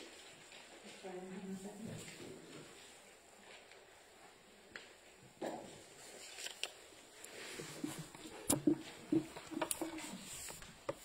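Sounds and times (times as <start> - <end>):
knocks and shuffling: 0.0 - 11.0.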